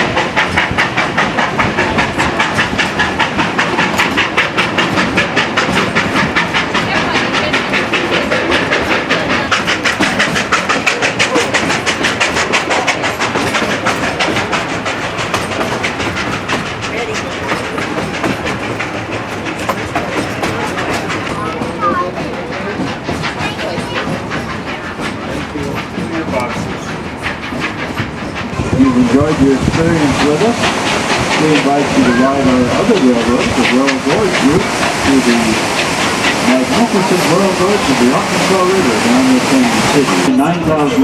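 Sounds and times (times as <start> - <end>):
steam locomotive exhaust beat: 0.0 - 41.0.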